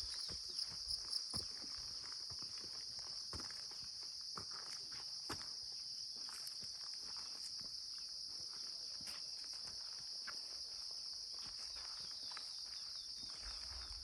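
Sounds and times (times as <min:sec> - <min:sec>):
insects droning: 0:00.0 - 0:14.0
soft footsteps on a path: 0:00.0 - 0:14.0.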